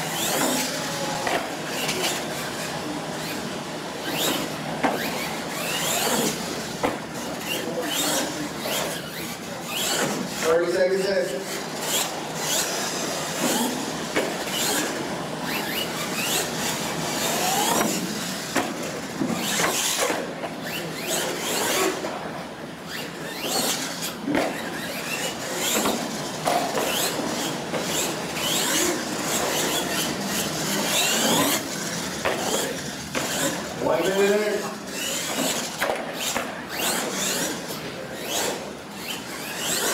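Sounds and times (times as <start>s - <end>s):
toy truck motor whining: 0.0s - 10.4s, 11.4s - 22.1s, 22.9s - 39.9s.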